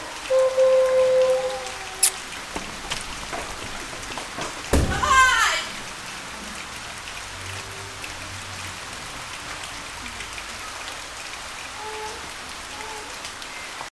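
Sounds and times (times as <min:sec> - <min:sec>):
rain hissing and pattering: 0:00.0 - 0:13.9.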